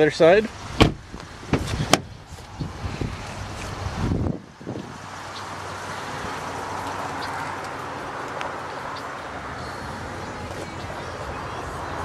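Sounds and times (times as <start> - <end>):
broad rushing noise: 0.1 - 12.0.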